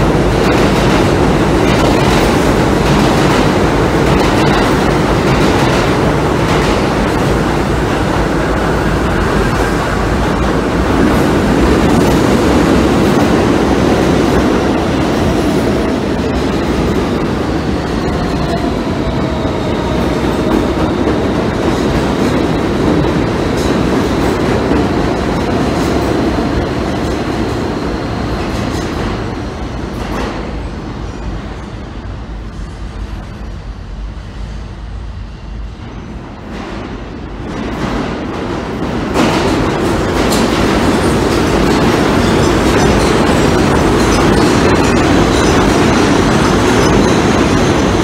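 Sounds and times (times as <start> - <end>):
subway train rumbling on rails: 0.0 - 48.0.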